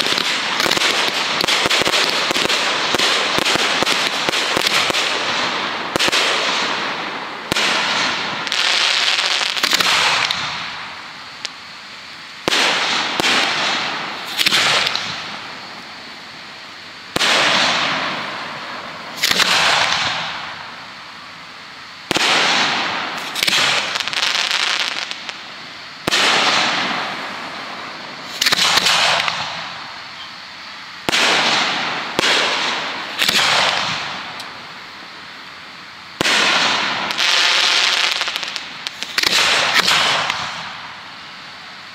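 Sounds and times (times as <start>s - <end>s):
fireworks bursting: 0.0s - 41.9s
fireworks crackling: 0.0s - 41.9s.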